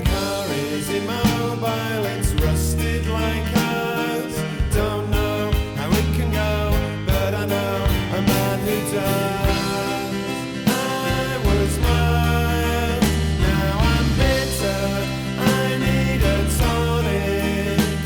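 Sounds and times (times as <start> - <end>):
band playing pop-rock song: 0.0 - 18.0.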